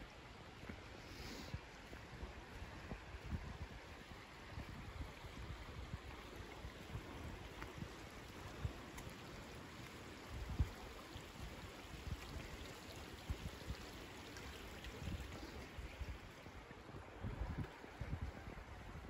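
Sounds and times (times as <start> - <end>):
wind buffeting microphone: 1.5 - 19.0
stream water rushing: 1.8 - 19.0.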